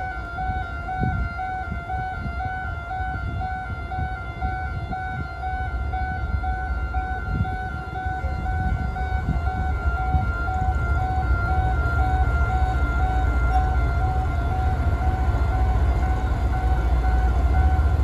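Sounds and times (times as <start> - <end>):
locomotive rumble: 0.0 - 18.0
two-tone electronic warning tone: 0.0 - 18.0.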